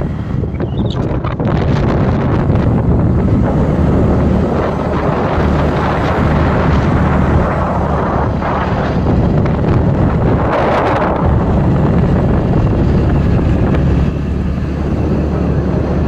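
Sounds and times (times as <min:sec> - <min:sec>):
road rumble: 0:00.0 - 0:16.0
vehicle engine: 0:00.0 - 0:16.0
wind buffeting microphone: 0:00.0 - 0:16.0.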